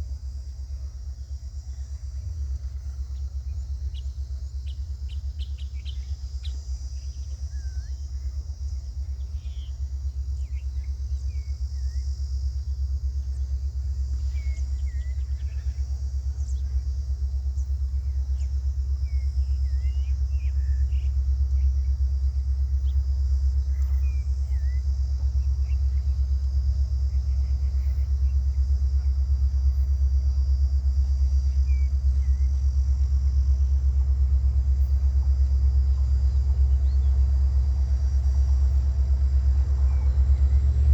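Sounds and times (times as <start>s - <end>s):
diesel locomotive engine throbbing: 0.0s - 40.9s
high-pitched insect drone: 0.0s - 40.9s
low pulsing rumble: 0.0s - 40.9s.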